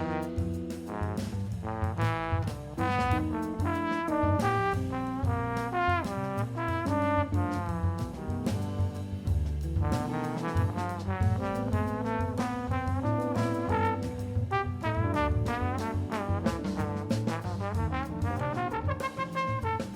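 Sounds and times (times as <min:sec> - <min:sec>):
bass line: 0:00.0 - 0:19.9
jazz horn melody: 0:00.0 - 0:19.9.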